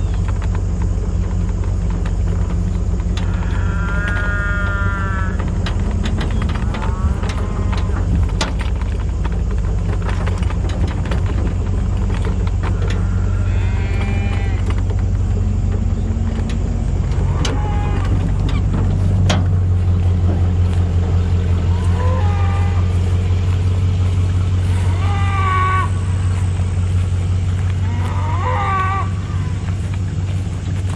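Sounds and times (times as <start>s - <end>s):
cattle calling: 0.0s - 30.9s
vehicle engine running: 0.0s - 30.9s.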